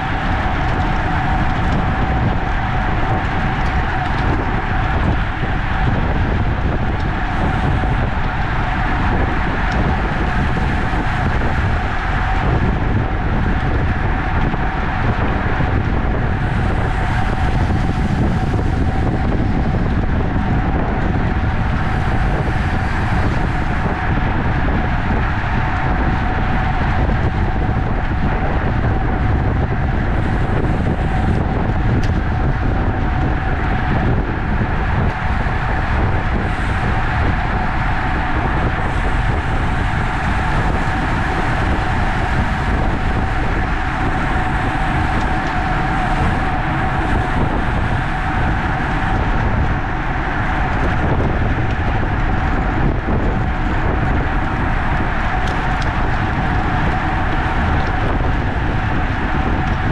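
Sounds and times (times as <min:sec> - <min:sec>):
bicycle tyre noise: 0:00.0 - 0:59.9
wind rush on microphone: 0:00.0 - 0:59.9.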